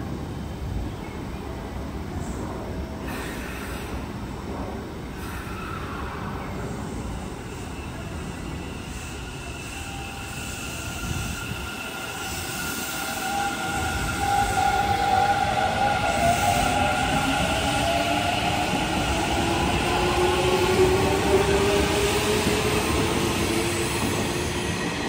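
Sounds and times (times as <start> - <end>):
electric train rumble: 1.8 - 25.0.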